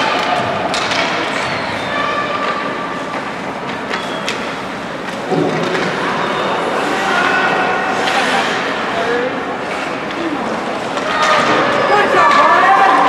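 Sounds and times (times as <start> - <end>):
sticks and puck clacking: 0.0 - 7.0, 7.7 - 13.0.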